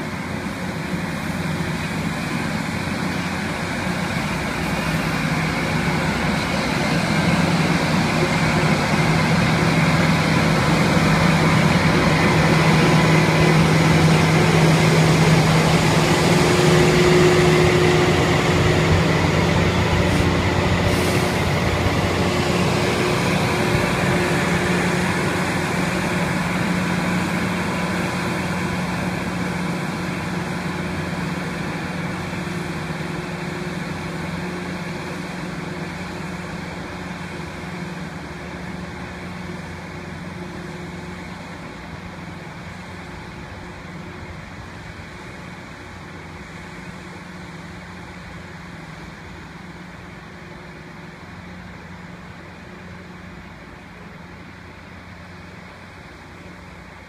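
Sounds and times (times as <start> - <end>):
train diesel engines humming: 0.0 - 57.0
train rushing noise: 0.0 - 57.0.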